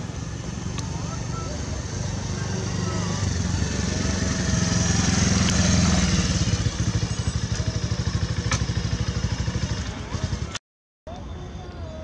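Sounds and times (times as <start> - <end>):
motorcycle engine at low revs: 0.0 - 10.6.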